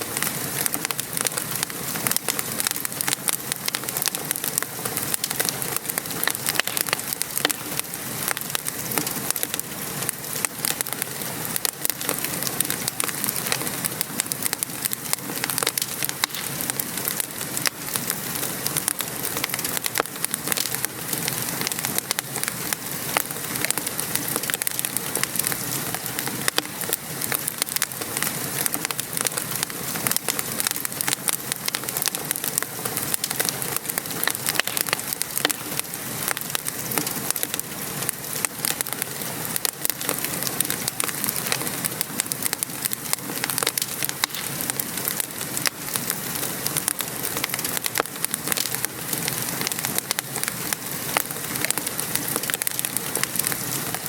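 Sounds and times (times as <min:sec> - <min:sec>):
rain pattering: 0:00.0 - 0:54.0
wood fire crackling and popping: 0:00.0 - 0:54.0.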